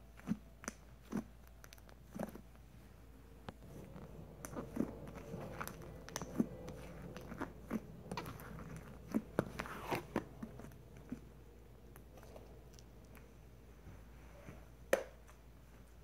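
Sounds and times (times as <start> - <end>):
slime squishing: 0.0 - 13.8.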